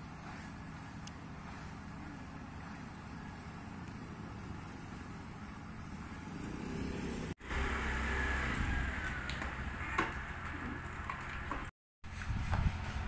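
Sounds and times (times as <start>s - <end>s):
motor scooter engine running: 0.0s - 11.7s.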